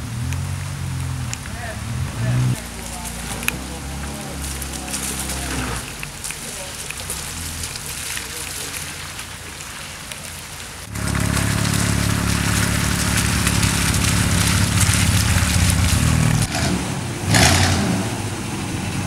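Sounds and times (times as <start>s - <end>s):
car engine humming: 0.0s - 19.0s
loud rush of noise: 0.0s - 19.0s
rain hissing: 0.0s - 19.0s.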